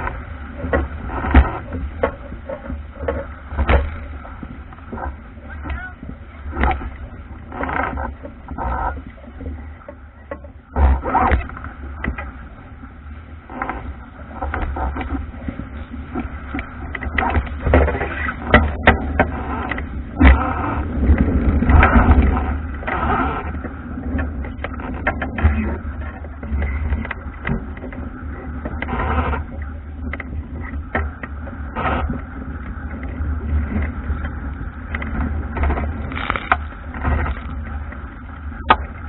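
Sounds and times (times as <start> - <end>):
bow slapping waves: 0.0 - 39.0
water rushing along a boat hull: 0.0 - 39.0
wind buffeting microphone: 0.0 - 39.0.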